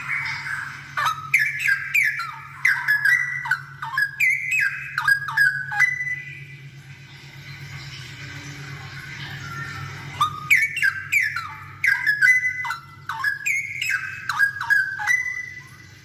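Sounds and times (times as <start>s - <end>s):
bird whistling liquid notes: 0.0s - 16.0s
low steady hum: 0.0s - 16.0s.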